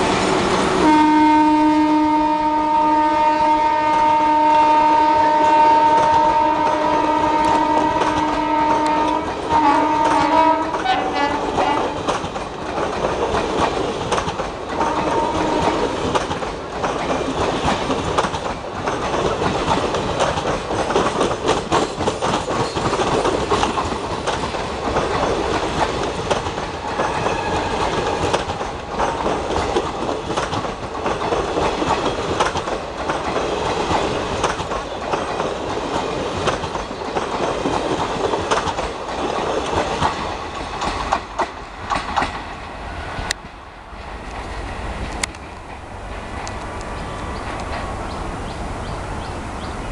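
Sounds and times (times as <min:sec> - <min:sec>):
train wheels clattering over rail joints: 0:03.2 - 0:49.7.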